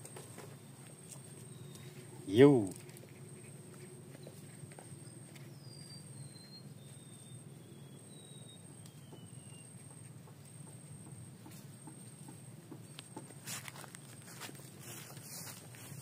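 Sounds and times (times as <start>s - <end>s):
faint bird song: 0.0s - 16.0s.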